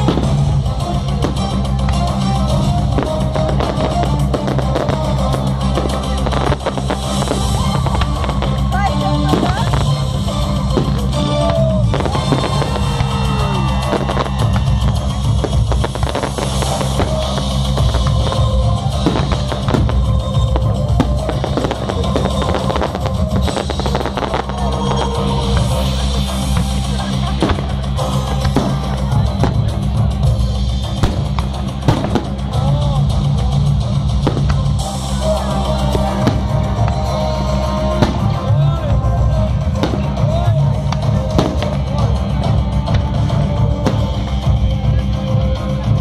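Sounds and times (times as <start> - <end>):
fireworks bursting: 0.0 - 44.8
music with drum beat: 0.0 - 46.0.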